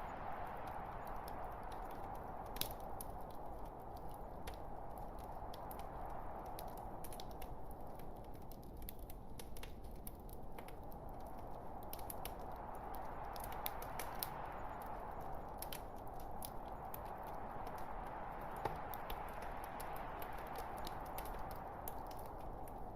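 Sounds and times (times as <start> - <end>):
logs crackling and popping: 0.0 - 22.9
flames rushing: 0.1 - 22.9.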